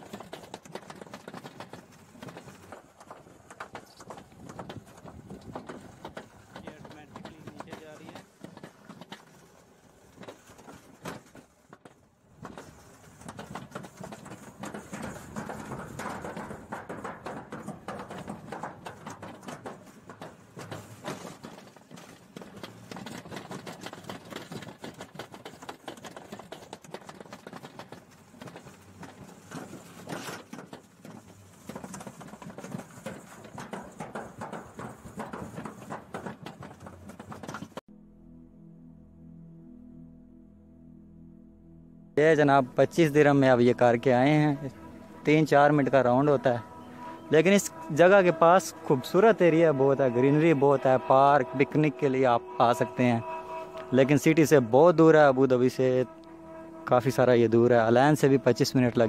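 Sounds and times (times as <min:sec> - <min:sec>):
coaster cart clattering on track: 0:00.0 - 0:37.8, 0:42.2 - 0:59.0.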